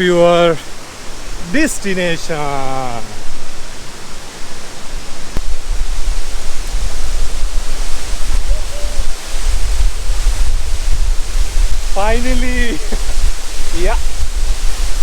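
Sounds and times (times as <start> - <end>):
waterfall rushing: 0.0 - 15.0
wind on microphone: 0.6 - 15.0.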